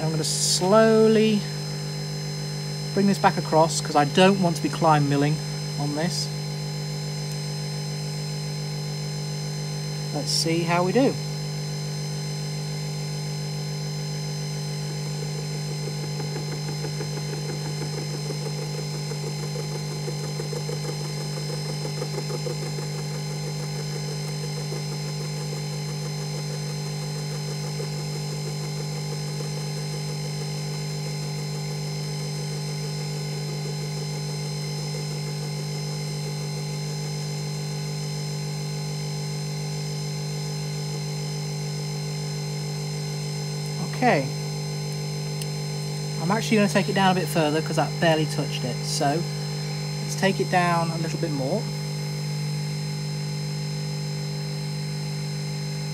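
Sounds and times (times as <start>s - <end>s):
milling machine humming: 0.0s - 55.9s.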